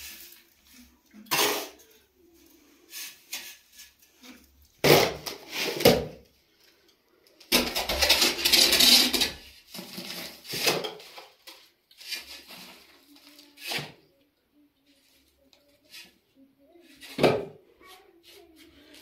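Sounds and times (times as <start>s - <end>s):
longer kitchen noise: 0.0s - 19.0s.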